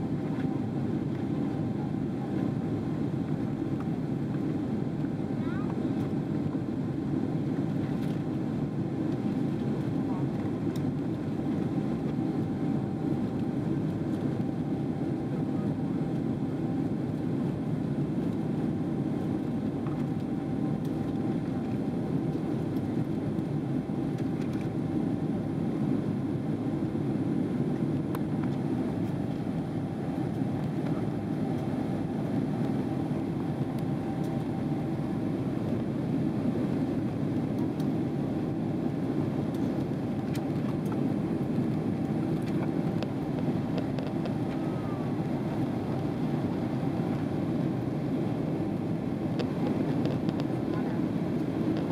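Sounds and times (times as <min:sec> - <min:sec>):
airplane engines rumbling: 0:00.0 - 0:51.9
faint steady hum: 0:00.0 - 0:51.9.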